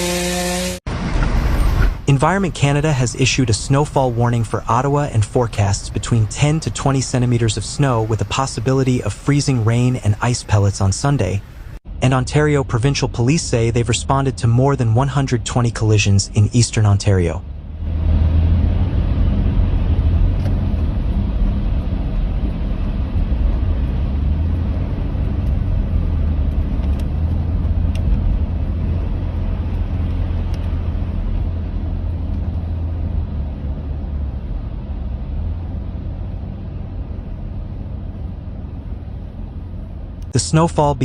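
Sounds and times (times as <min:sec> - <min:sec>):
car driving rumble: 0:00.0 - 0:41.0.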